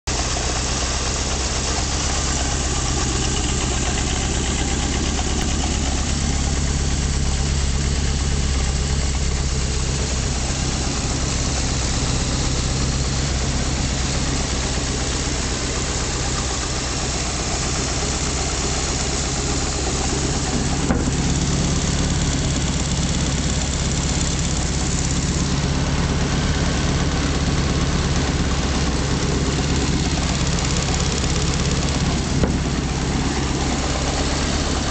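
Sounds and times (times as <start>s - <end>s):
welder engine running: 0.1s - 34.9s.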